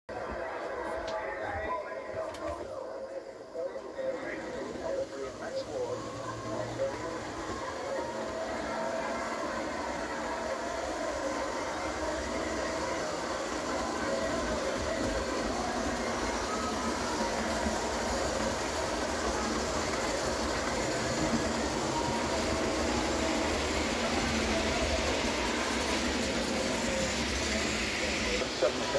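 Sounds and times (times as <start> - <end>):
wheels rolling on rails: 3.8 - 28.9
model train motor whirring: 4.3 - 28.9.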